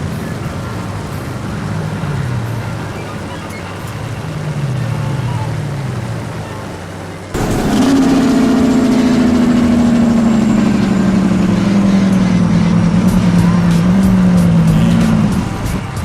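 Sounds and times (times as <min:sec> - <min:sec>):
truck engine winding down: 0:00.0 - 0:16.0.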